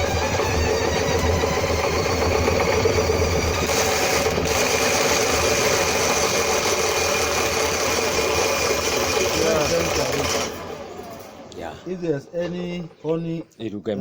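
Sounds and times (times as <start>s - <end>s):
electric hand drill running: 0.0s - 11.9s.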